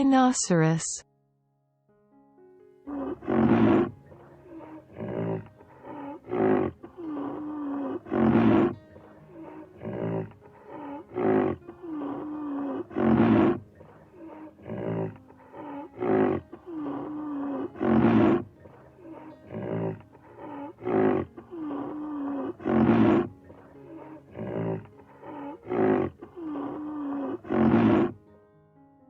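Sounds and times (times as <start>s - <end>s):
loud rhinoceros call: 2.9s - 28.2s
rhinoceros grunting calls: 2.9s - 28.2s
rhinoceros moaning: 2.9s - 28.2s.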